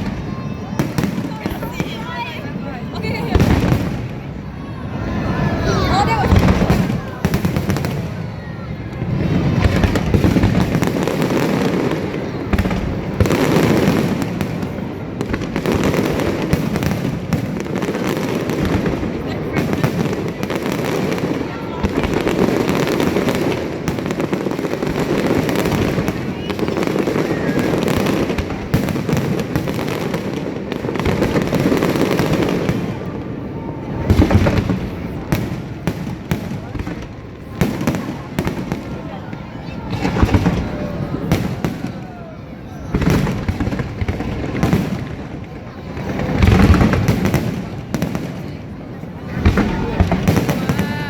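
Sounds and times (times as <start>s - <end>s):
low firework booms: 0.0s - 4.7s, 6.2s - 51.0s
firework bangs and crackles: 0.0s - 51.0s.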